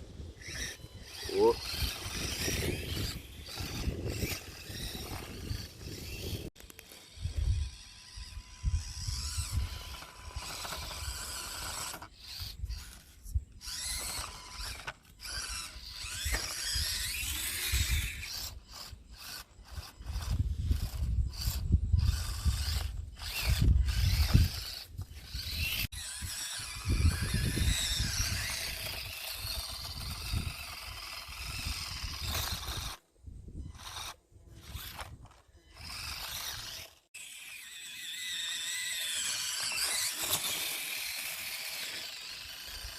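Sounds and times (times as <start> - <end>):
small motor and gears whirring: 0.0 - 42.9.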